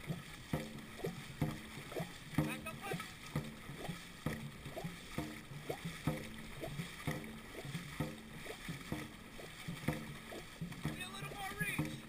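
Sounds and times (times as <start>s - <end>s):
paddles knocking with low ring: 0.0s - 12.0s
water washing along hull: 0.0s - 12.0s.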